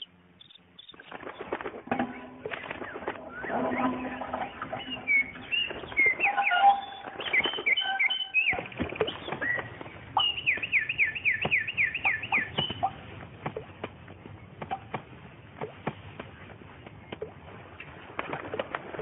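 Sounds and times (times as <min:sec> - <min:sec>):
birds chirping: 0:00.0 - 0:18.1.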